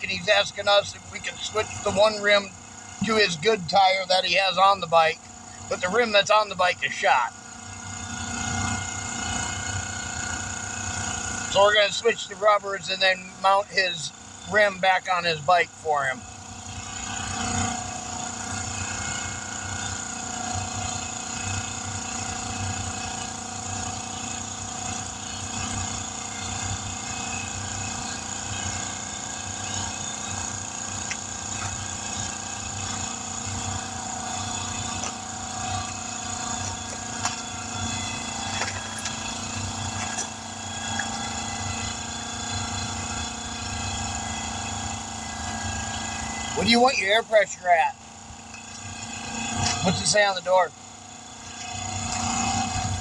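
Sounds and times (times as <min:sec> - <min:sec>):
engine-driven machine humming: 0:00.0 - 0:53.0.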